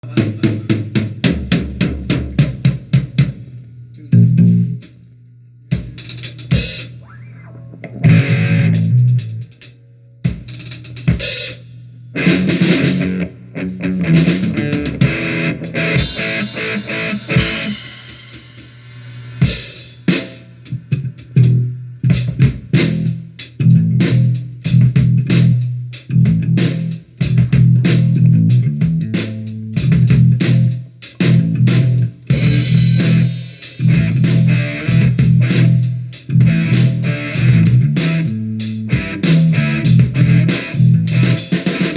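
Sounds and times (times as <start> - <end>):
rock band playing: 0.0 - 3.5, 4.2 - 4.9, 5.7 - 9.7, 10.3 - 11.6, 12.2 - 41.9.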